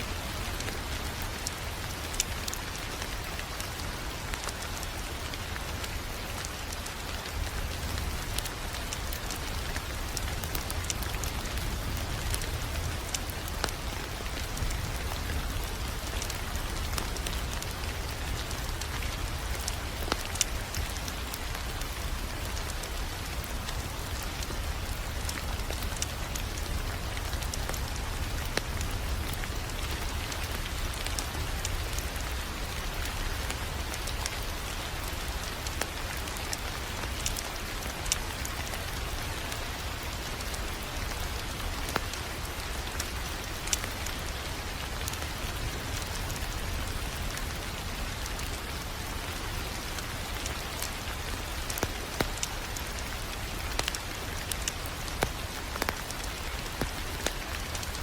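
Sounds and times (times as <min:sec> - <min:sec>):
wood fire crackling and popping: 0:00.2 - 0:58.0.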